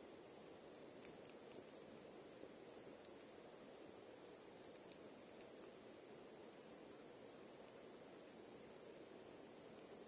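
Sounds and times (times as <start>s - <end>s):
low hiss: 0.0s - 10.0s.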